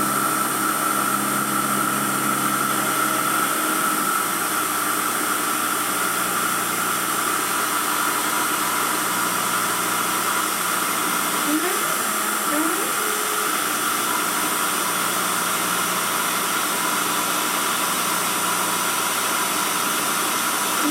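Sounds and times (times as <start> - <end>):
low motor hum: 0.0 - 20.9
spindle whine: 0.0 - 20.9.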